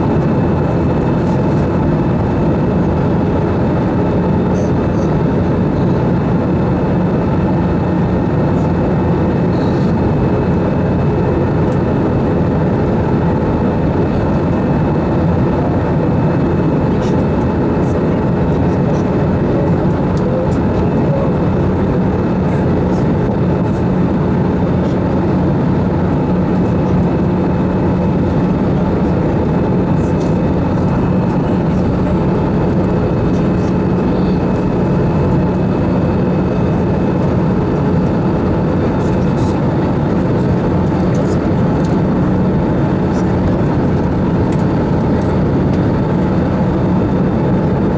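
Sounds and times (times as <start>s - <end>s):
airplane cabin noise in flight: 0.0s - 47.9s.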